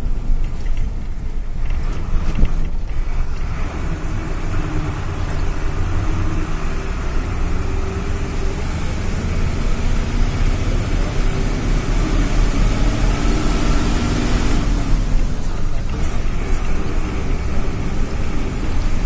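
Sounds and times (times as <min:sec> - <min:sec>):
road noise rumble: 0:00.0 - 0:19.0
vehicle engine hum: 0:00.0 - 0:19.0.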